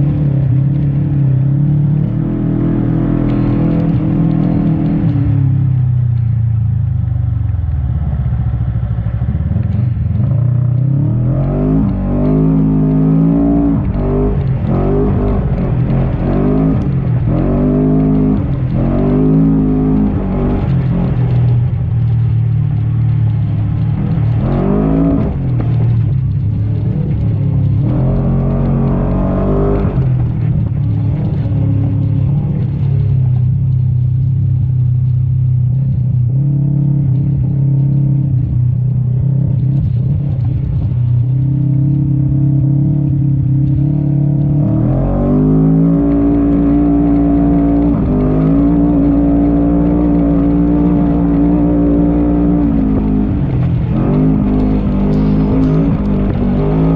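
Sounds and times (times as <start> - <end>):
off-road vehicle engine revving: 0.0 - 6.4, 8.4 - 56.9.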